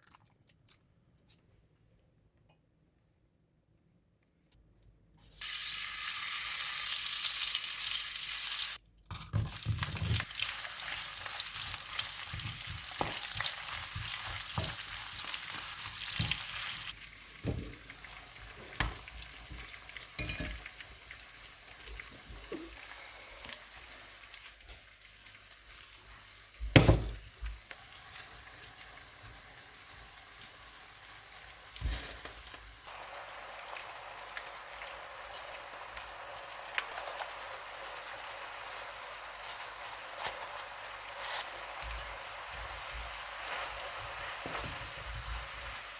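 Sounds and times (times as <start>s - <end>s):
food sizzling in hot oil: 5.2s - 8.8s, 9.4s - 45.9s.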